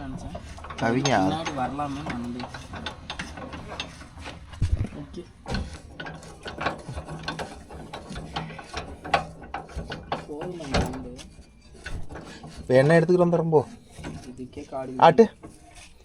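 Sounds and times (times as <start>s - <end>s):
mechanical clicks and clanks: 0.0s - 16.0s.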